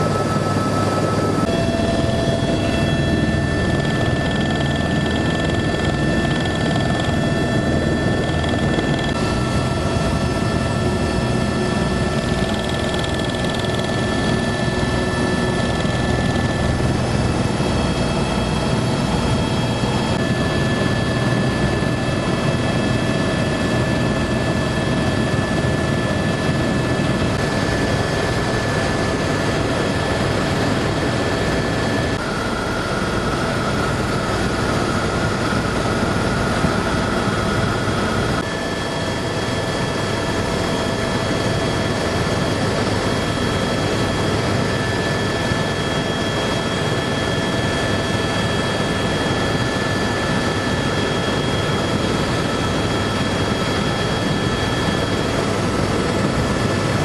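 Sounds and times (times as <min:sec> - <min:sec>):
helicopter turbine and rotor noise: 0:00.0 - 0:57.0.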